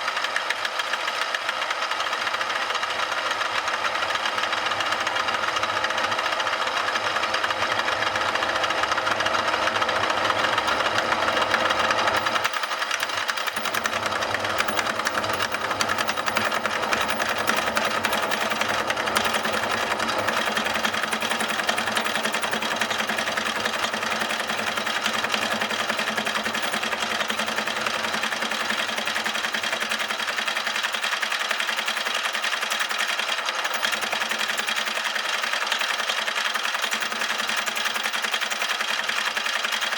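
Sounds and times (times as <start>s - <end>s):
milling machine cutting metal: 3.1s - 39.9s.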